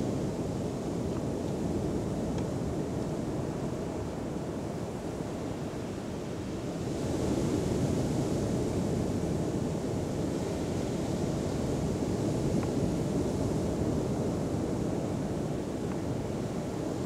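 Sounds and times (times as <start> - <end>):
surf washing on shore: 0.0 - 17.0.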